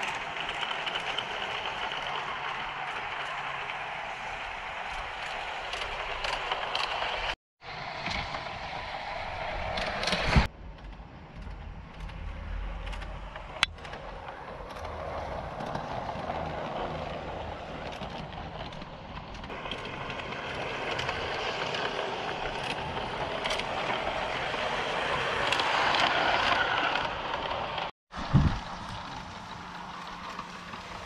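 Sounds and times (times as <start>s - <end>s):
model train running on track: 0.0s - 27.9s, 28.6s - 31.0s.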